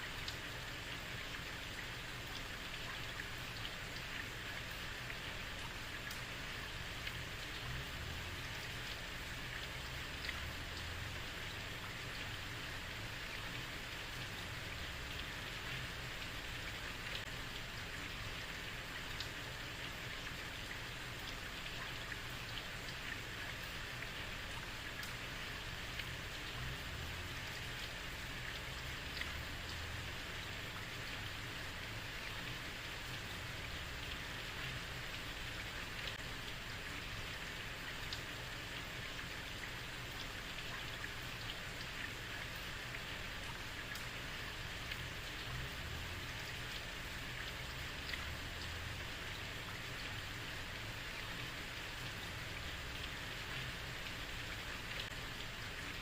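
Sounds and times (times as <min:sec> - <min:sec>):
heavy rain on a street: 0:00.0 - 0:56.0
raindrops ticking: 0:00.1 - 0:56.0.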